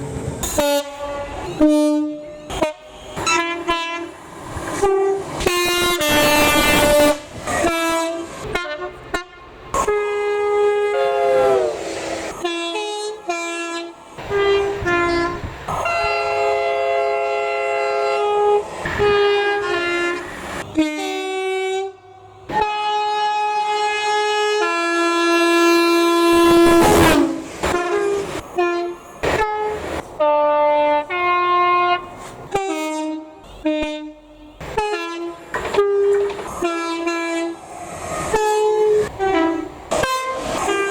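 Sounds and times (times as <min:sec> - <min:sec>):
train horn tooting: 0:00.4 - 0:04.2, 0:04.8 - 0:37.6, 0:38.3 - 0:40.9.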